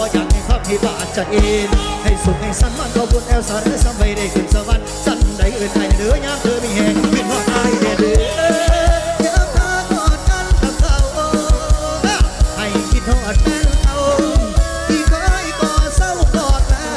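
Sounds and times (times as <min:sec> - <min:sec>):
song with drum beat and vocals: 0:00.0 - 0:16.9.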